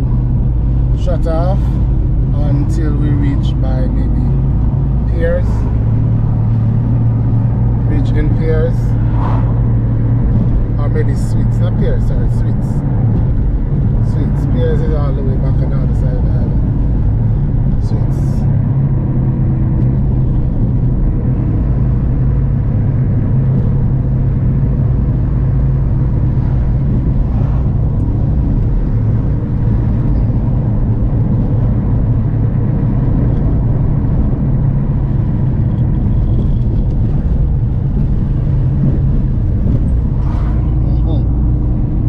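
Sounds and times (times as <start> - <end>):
car engine hum: 0.0 - 42.0
road noise: 0.0 - 42.0.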